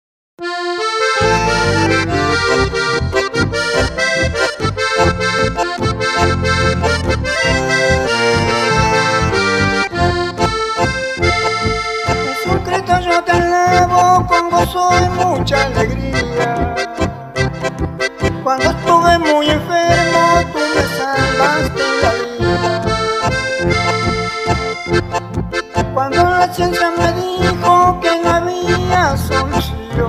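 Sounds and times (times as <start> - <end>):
accordion melody: 0.4 - 30.0
rhythmic bass beat: 1.0 - 30.0.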